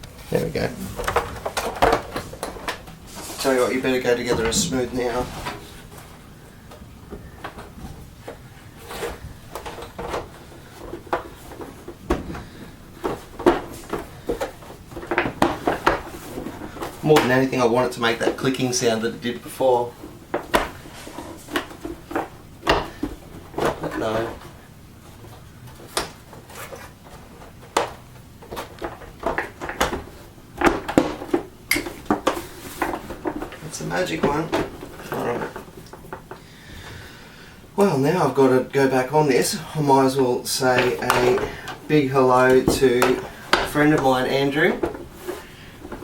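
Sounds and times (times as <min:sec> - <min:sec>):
plastic parts knocking and clicking: 0:00.0 - 0:03.0, 0:04.2 - 0:17.5, 0:20.0 - 0:37.0, 0:40.6 - 0:46.0.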